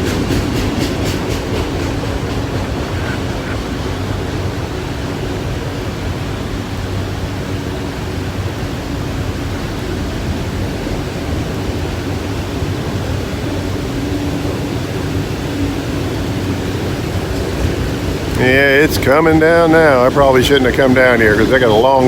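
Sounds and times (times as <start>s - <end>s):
freight train wheels rumbling on rail: 0.0s - 22.0s
rain falling: 0.0s - 22.0s.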